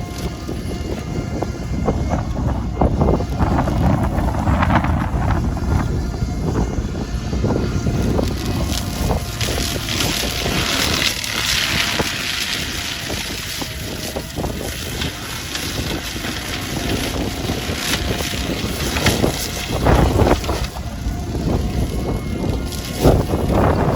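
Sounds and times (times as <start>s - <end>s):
excavator engine under load: 0.0s - 23.9s
mulcher grinding shrubs: 0.0s - 23.9s
wind buffeting microphone: 0.0s - 23.9s.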